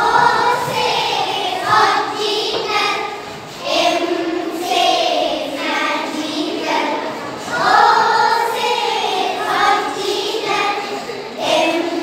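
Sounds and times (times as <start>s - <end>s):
girls singing in unison: 0.0s - 12.0s.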